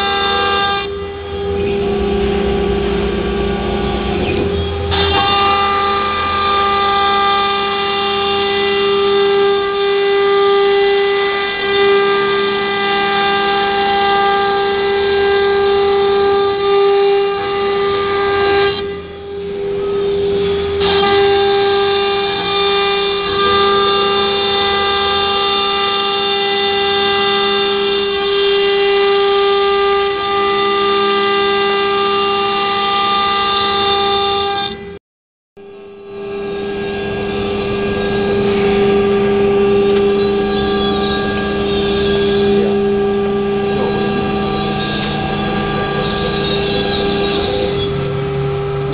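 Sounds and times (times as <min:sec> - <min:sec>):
router spindle high whine: 0:00.0 - 0:35.0, 0:35.6 - 0:48.9.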